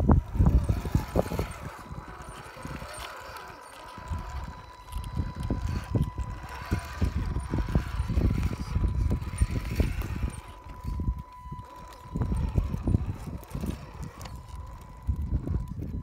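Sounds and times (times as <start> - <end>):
electric motor whine: 0.0 - 16.0
wind rumble on microphone: 0.0 - 16.0.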